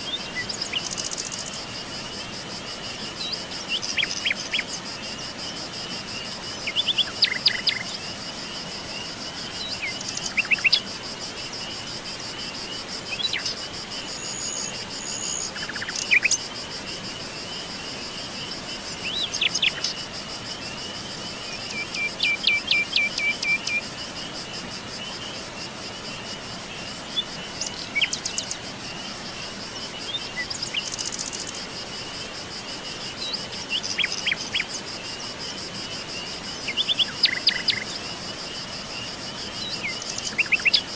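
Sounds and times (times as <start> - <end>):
pulsing insect chorus: 0.0 - 40.9.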